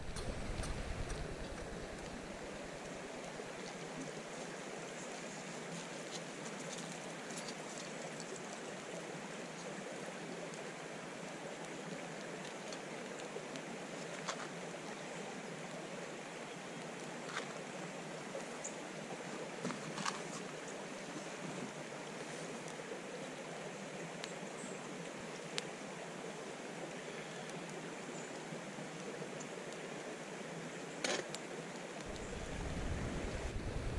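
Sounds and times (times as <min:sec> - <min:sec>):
creek water flowing: 0:00.0 - 0:33.9.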